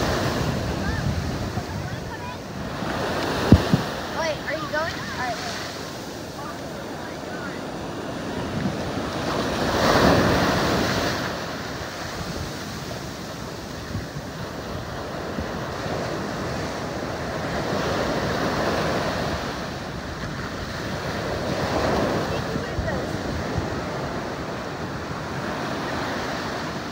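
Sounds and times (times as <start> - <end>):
ocean waves breaking on beach: 0.0 - 26.9
wind buffeting microphone: 0.0 - 26.9.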